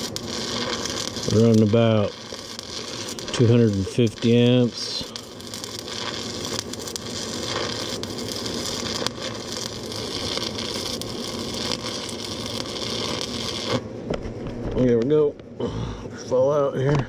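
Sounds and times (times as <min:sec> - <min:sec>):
welding arc crackling hiss: 0:00.0 - 0:15.3.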